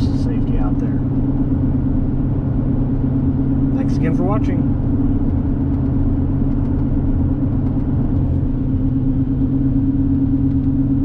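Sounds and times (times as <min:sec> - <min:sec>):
engine and road drone in cab: 0:00.0 - 0:11.0.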